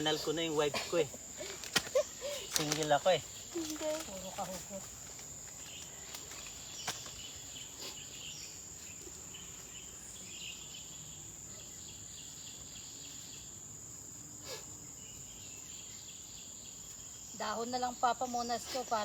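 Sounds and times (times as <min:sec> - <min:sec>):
forest insects droning: 0:00.0 - 0:19.0.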